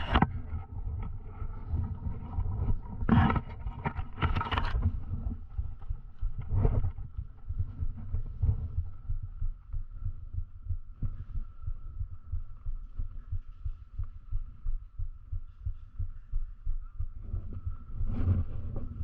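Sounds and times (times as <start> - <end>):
rapid muffled low thumps: 0.1 - 19.0.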